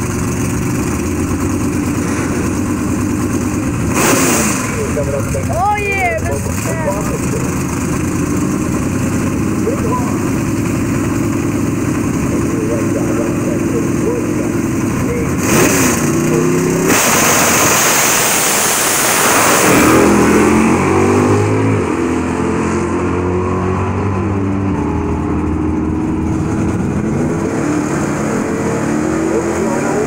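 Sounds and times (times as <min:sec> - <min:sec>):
drag racing cars accelerating: 0:00.0 - 0:30.0.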